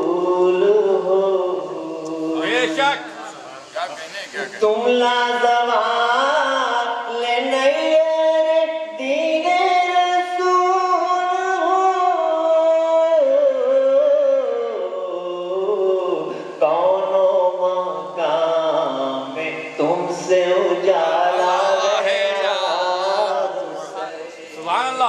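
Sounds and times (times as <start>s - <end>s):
man chanting into a microphone: 0.0s - 25.0s.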